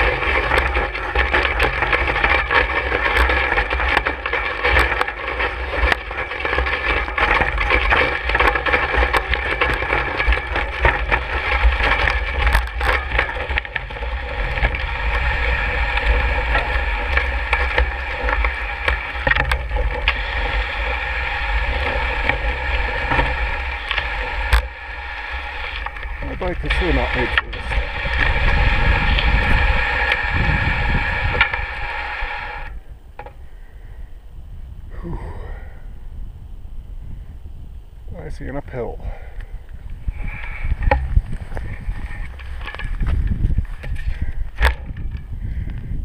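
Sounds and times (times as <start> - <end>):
bike tyres rattling and crunching: 0.0 - 34.1, 37.0 - 46.0
low rumble: 0.0 - 38.2, 39.0 - 46.0.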